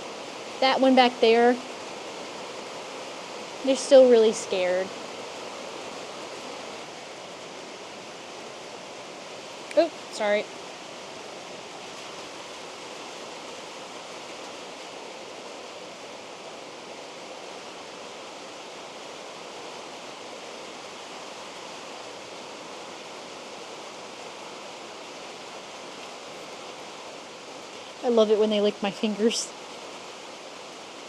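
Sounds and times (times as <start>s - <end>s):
steady rushing noise: 0.0s - 31.0s.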